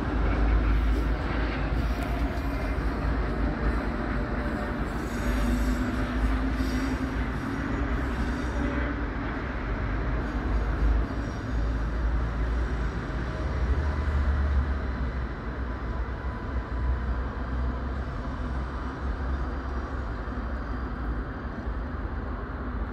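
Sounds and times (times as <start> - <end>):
train rumbling past: 0.0 - 22.9.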